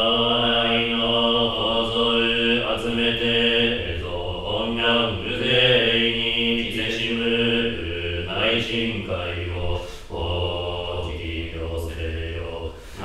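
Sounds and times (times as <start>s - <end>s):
voice chanting a hymn: 0.0s - 13.0s.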